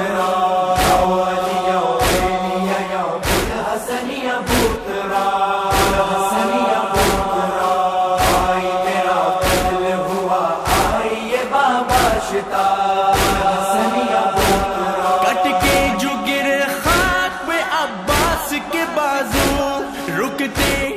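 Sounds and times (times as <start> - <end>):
mourning lament singing: 0.0 - 20.9
steady heavy beat: 0.0 - 20.9.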